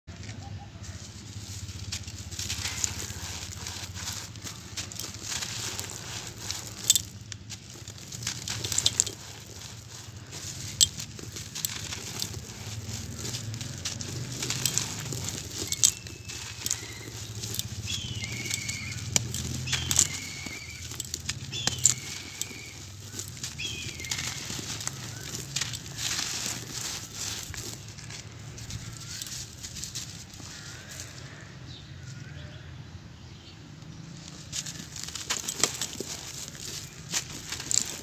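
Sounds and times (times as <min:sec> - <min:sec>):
hands crunching dry clumps: 0:00.3 - 0:31.4, 0:34.2 - 0:38.0
clumps snapping apart: 0:01.7 - 0:31.1, 0:34.5 - 0:38.0.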